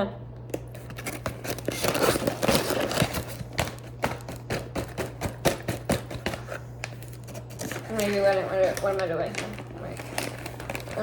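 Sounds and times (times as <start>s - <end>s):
popcorn popping: 0.4s - 11.0s
popcorn bag crackling and rustling: 0.9s - 6.1s, 6.7s - 11.0s.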